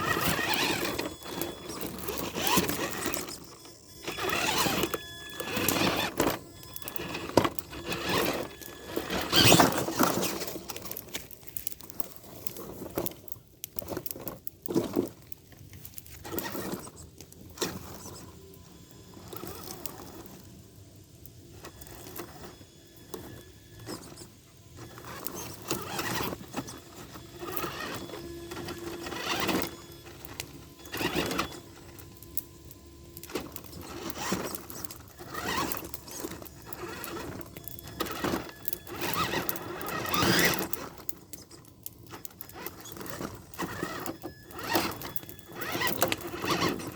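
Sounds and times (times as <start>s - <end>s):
toy truck motor whining: 0.0s - 46.9s.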